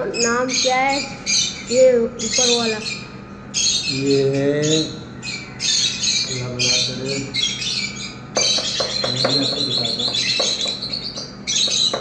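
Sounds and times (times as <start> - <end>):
parrots squawking: 0.0 - 12.0.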